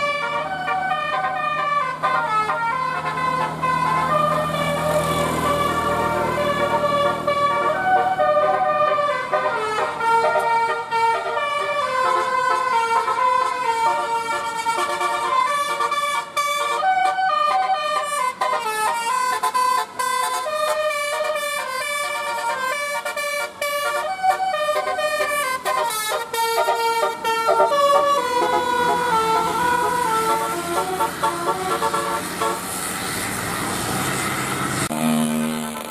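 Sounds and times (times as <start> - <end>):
multi-tone bus horn tune: 0.0 - 33.0, 34.6 - 35.9.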